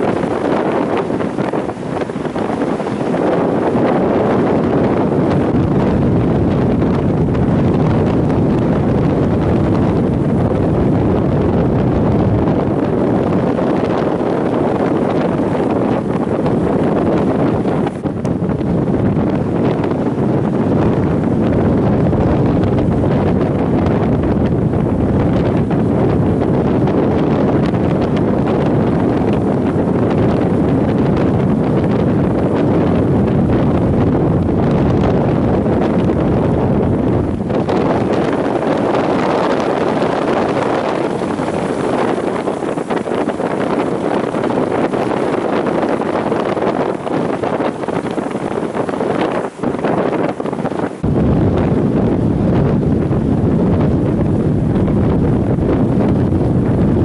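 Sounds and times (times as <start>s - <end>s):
heavy surf roaring: 0.0s - 57.0s
strong wind buffeting microphone: 0.0s - 57.0s.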